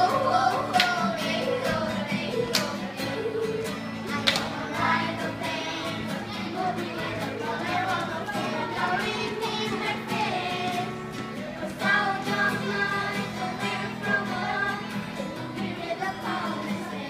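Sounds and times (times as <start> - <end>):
acoustic guitar: 0.0 - 17.0
children singing: 0.0 - 17.0.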